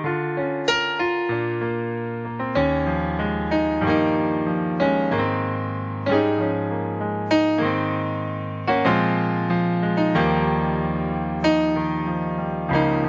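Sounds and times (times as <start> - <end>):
digital piano playing chords: 0.0 - 13.0.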